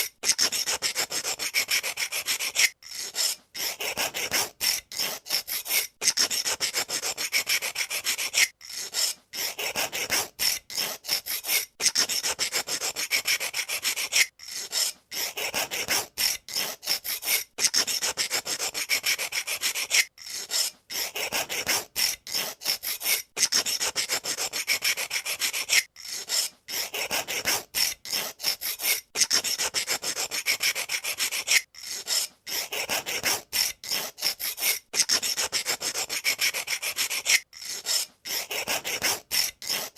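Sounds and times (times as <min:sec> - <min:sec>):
pencil sharpener scraping: 0:00.0 - 0:39.9.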